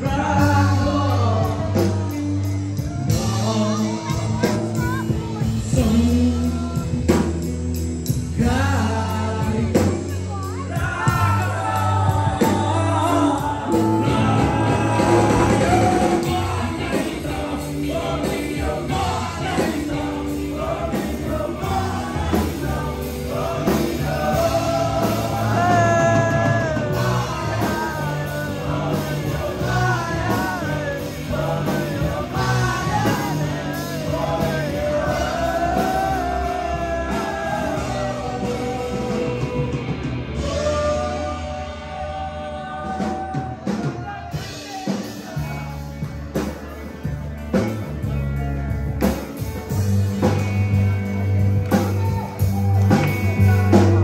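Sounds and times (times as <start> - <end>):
man singing: 0.0 - 46.8, 51.1 - 54.0
live rock band playing: 0.0 - 54.0.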